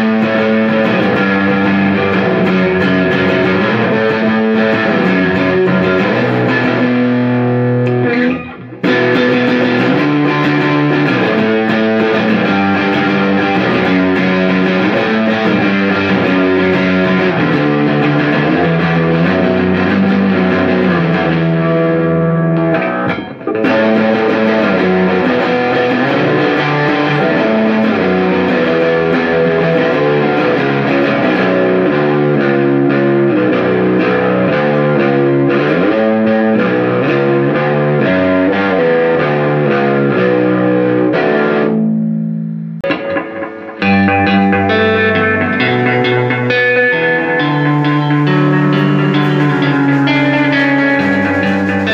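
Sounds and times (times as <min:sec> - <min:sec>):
electric guitar riff: 0:00.0 - 0:51.9.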